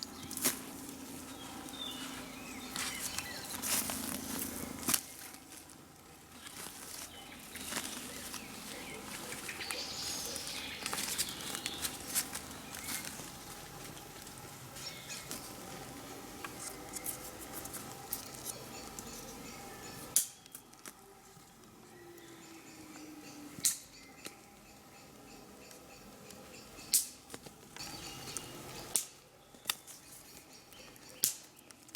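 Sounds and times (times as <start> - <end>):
dry leaf litter crackling: 0.0 - 31.9
faint birds chirping: 0.0 - 31.9.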